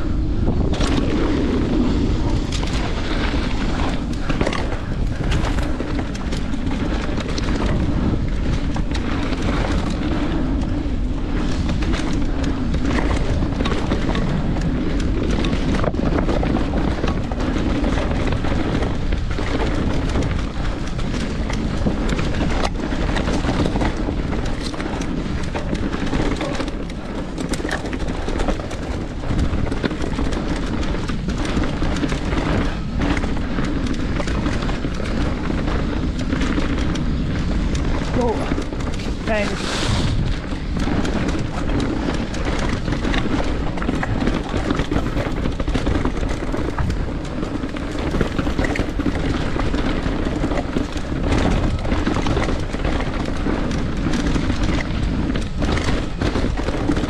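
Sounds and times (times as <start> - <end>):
bike rattling: 0.0 - 57.0
tyres running on dirt and rock: 0.0 - 57.0
wind buffeting microphone: 0.0 - 57.0.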